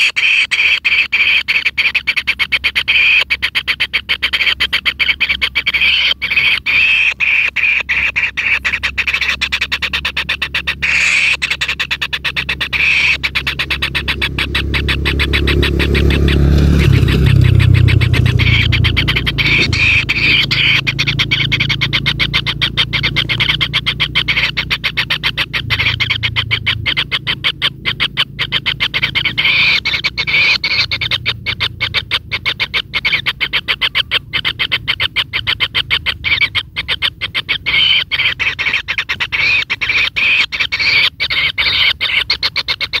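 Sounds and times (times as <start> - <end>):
kingfisher nestlings calling: 0.0 - 43.0
low steady hum: 0.0 - 43.0.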